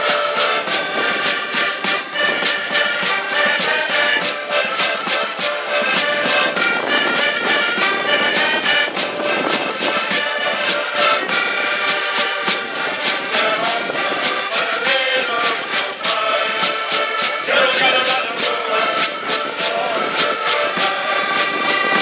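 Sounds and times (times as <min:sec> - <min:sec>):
button accordions playing: 0:00.0 - 0:22.0
wooden scraper rhythm: 0:00.0 - 0:22.0.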